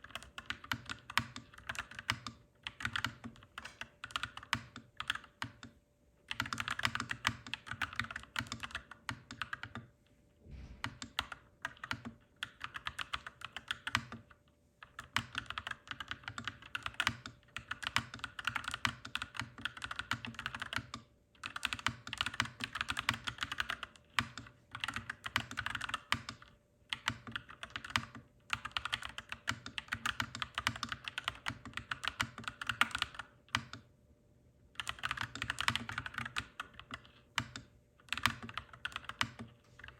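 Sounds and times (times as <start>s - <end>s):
mechanical keyboard typing: 0.0s - 9.9s, 10.8s - 33.9s, 34.8s - 39.9s.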